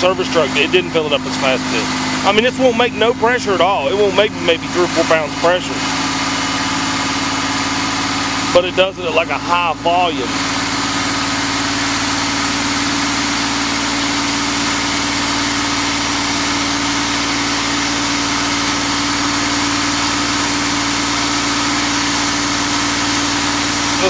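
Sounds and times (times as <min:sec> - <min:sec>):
engine hum: 0:00.0 - 0:24.0.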